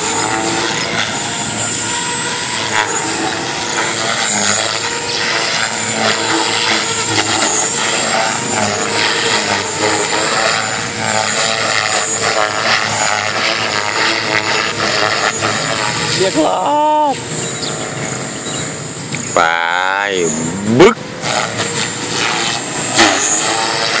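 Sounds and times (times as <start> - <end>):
model helicopter motor whine: 0.0 - 24.0.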